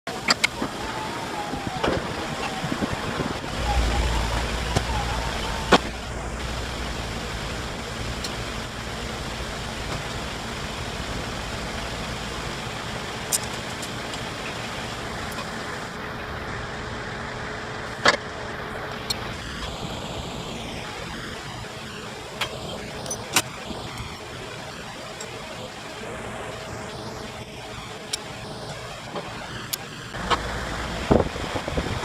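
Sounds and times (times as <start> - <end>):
machine noise with low hum: 0.1 - 32.0.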